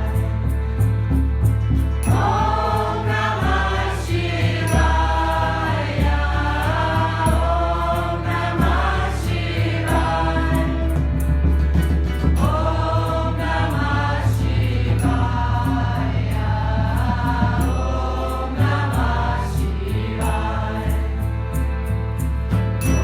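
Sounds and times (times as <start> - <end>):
deep bass: 0.0 - 23.0
light ticking percussion: 0.0 - 23.0.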